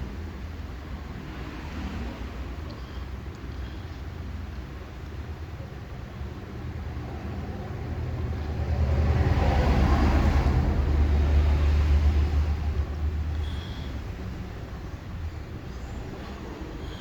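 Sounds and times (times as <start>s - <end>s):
passing road vehicle rumble: 0.1s - 17.0s.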